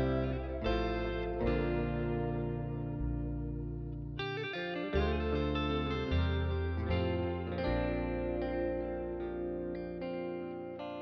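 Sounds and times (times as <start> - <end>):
guitar chords: 0.0 - 11.0.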